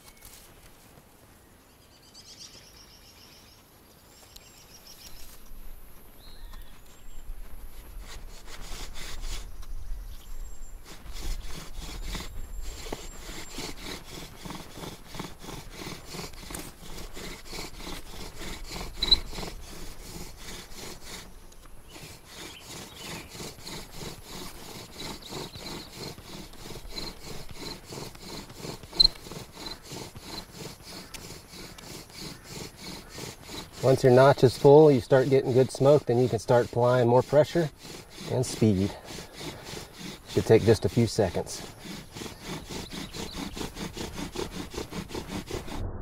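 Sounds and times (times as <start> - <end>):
bow drill spindle grinding: 6.4 - 45.8.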